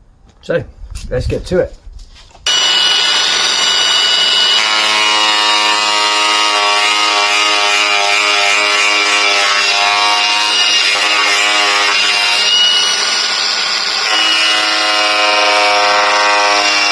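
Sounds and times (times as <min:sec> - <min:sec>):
angle grinder cutting: 0:02.5 - 0:16.9.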